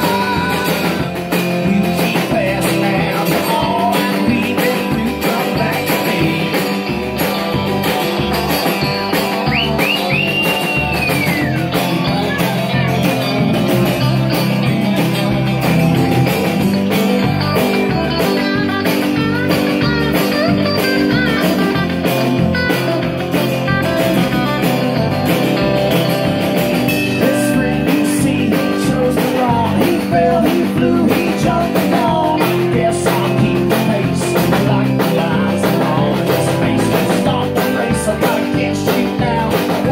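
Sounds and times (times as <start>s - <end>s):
drum kit beat: 0.0s - 39.9s
high sliding guitar notes: 0.0s - 39.9s
rock band playing: 0.0s - 39.9s.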